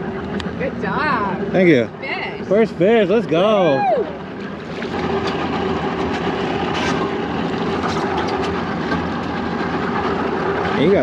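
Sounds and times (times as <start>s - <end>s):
boat engine humming: 0.0s - 11.0s
wind and water noise: 0.0s - 11.0s.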